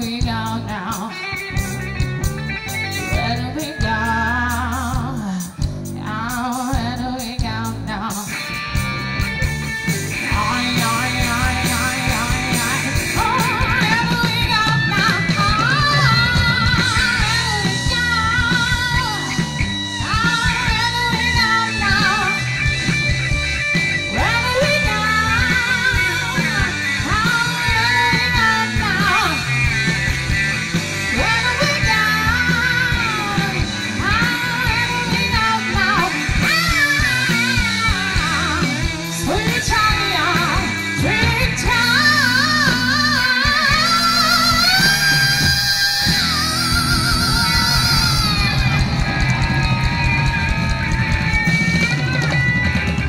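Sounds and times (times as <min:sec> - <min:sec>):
bass guitar: 0:00.0 - 0:53.0
electric guitar: 0:00.0 - 0:53.0
woman singing lead: 0:00.0 - 0:53.0.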